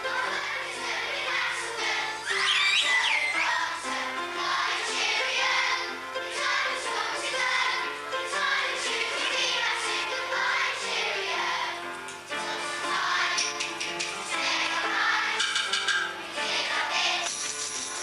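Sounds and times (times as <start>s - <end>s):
song with singing voices: 0.0s - 17.5s.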